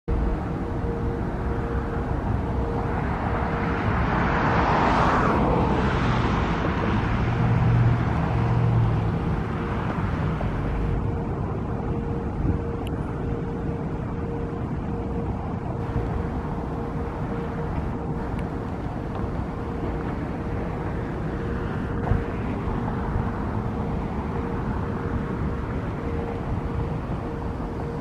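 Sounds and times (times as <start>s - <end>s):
steady outdoor rumble: 0.0s - 28.0s
vehicle passing by: 0.3s - 28.0s.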